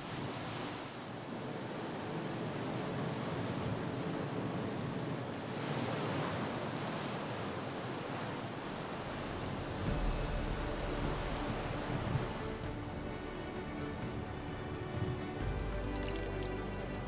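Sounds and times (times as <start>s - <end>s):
ocean surf washing ashore: 0.0s - 16.4s
wind: 0.0s - 17.0s.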